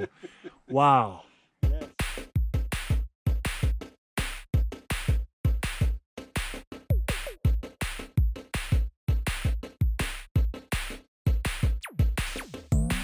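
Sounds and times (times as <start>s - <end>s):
electronic drum-machine beat: 1.6s - 13.0s.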